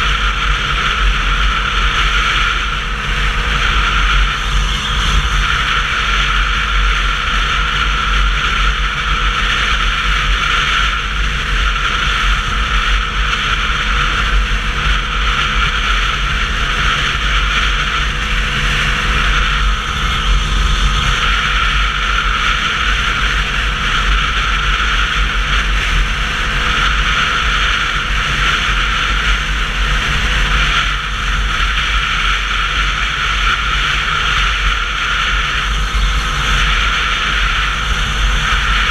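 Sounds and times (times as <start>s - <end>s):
motorcycle low rumble: 0.0s - 38.9s.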